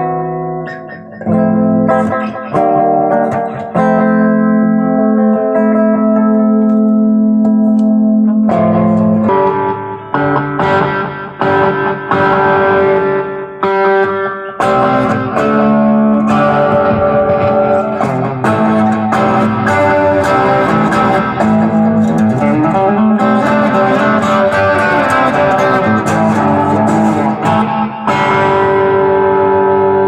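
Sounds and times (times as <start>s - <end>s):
electric guitar chords ringing: 0.0s - 30.0s.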